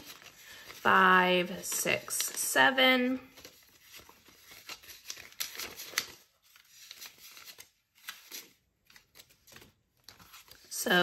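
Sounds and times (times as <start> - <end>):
banknotes rustling: 0.0 - 11.0.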